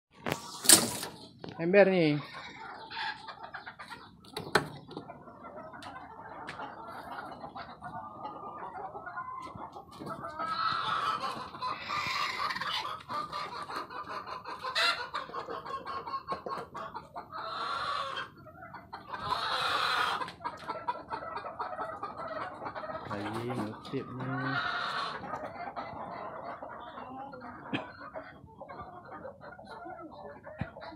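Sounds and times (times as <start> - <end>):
chickens clucking and calling: 0.2 - 30.9.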